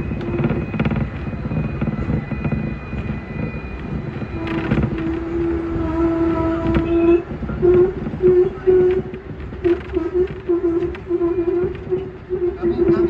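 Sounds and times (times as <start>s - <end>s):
strong steady hum: 0.0s - 13.0s
tram rumbling on rails: 0.0s - 13.0s
wheels clattering on track: 0.0s - 13.0s.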